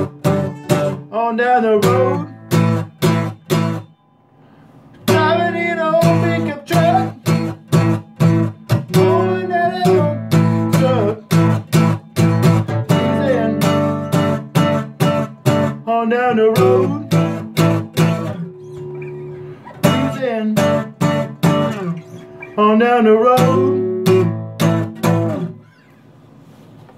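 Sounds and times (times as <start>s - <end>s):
acoustic guitar strumming: 0.0s - 26.2s.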